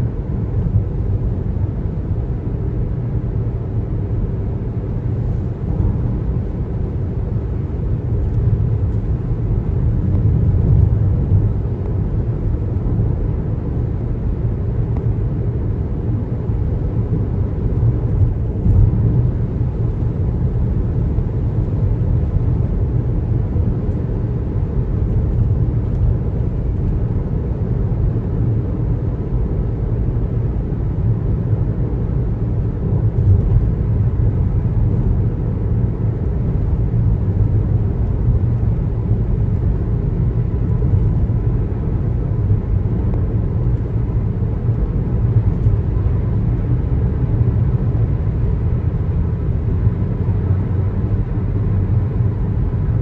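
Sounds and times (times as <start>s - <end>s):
car road and tyre rumble: 0.0s - 53.0s.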